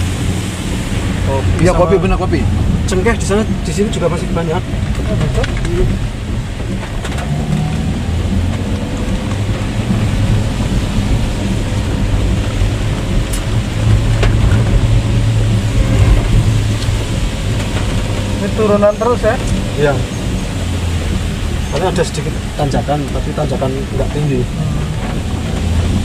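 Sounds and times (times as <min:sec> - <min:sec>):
engine and tyres rumbling: 0:00.0 - 0:26.0
rain on a car: 0:00.0 - 0:26.0.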